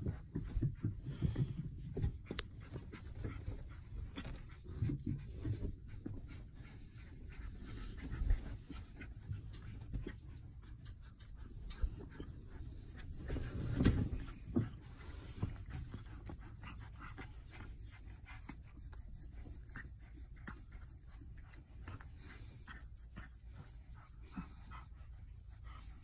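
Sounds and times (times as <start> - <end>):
hand rubbing fur: 0.0 - 26.0.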